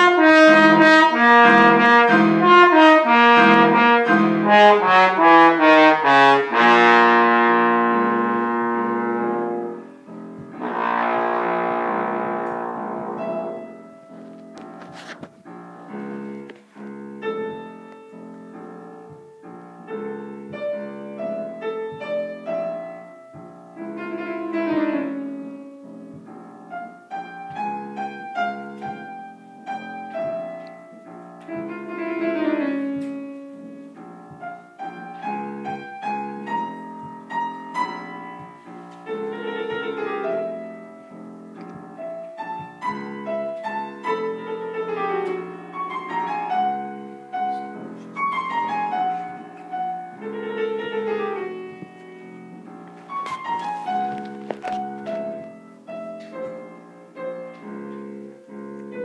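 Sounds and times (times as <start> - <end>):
grand piano classical passage: 0.0 - 59.0.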